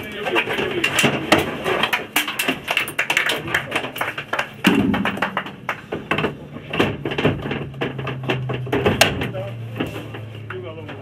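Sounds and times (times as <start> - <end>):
taps clicks and knocks: 0.3 - 9.3.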